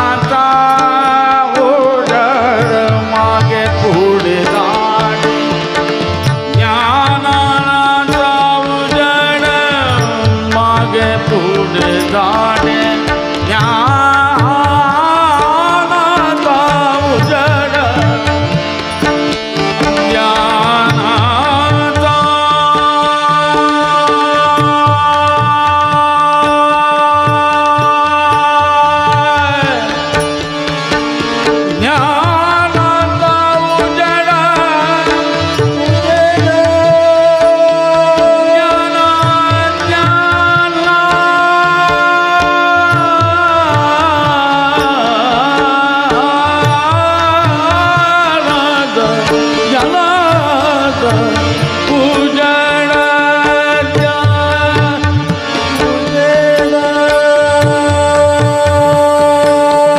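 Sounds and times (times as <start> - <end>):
harmonium tones: 0.0 - 59.9
man singing: 0.0 - 59.9
tabla strokes: 0.0 - 59.9.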